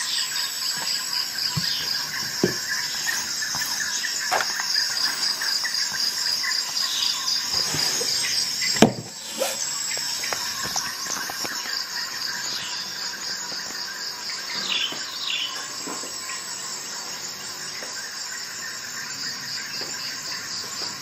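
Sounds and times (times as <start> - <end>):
high insect-like chirring: 0.0 - 21.0.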